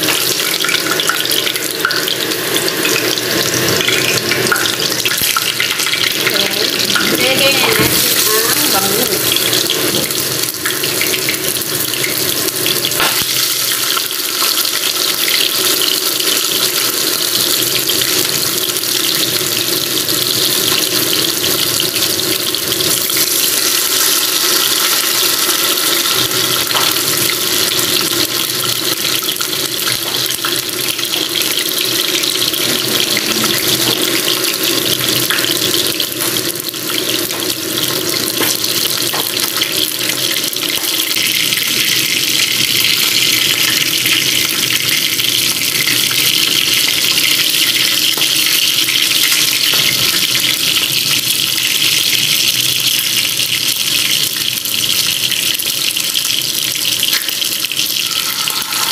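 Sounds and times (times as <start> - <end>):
fish frying in hot oil: 0.0 - 58.9.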